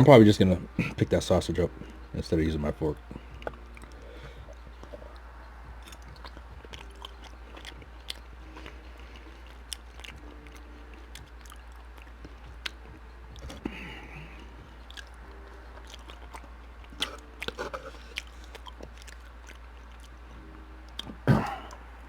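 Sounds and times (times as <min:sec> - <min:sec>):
person chewing sausage: 0:00.6 - 0:22.0
wet mouth clicks: 0:03.4 - 0:21.9.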